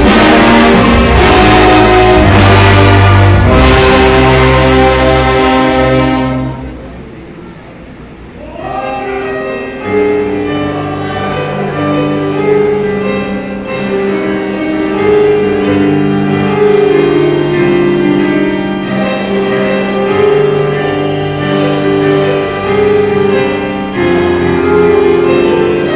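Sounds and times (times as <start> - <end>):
orchestra playing held chords: 0.0 - 25.9.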